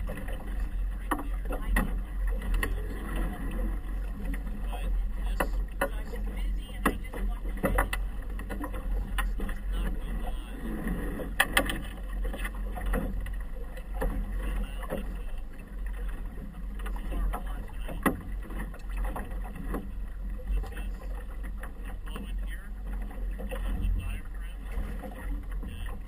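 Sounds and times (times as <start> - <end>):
steady low rumble: 0.0 - 26.0
waves slapping against boat hull: 0.0 - 26.0.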